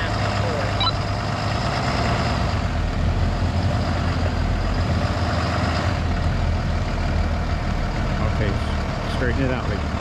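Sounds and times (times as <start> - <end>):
heavy diesel engine droning: 0.0 - 10.0.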